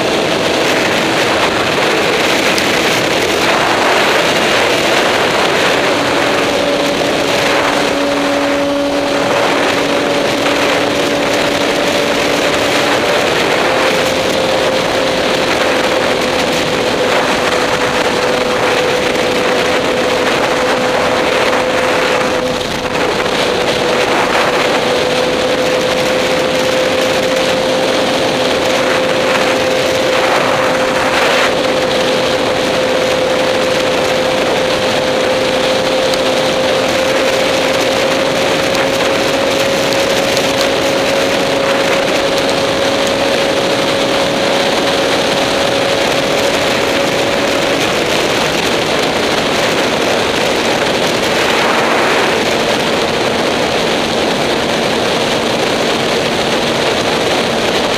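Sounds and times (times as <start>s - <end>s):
motorcycle engine cruising: 0.0s - 57.9s
wind rush on microphone: 0.0s - 57.9s.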